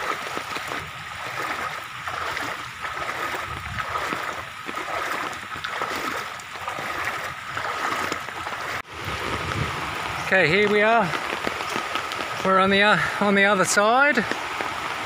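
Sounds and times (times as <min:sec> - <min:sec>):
floodwater rushing: 0:00.0 - 0:15.0
person wading through water: 0:00.0 - 0:15.0.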